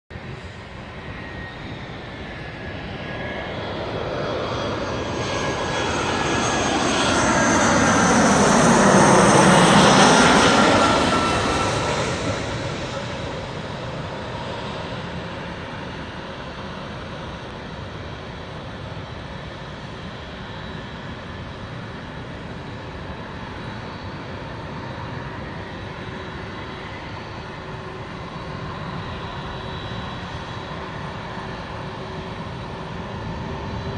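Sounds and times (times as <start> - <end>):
steady jet engine noise: 0.1 - 33.9
jet airliner passing: 0.2 - 33.9.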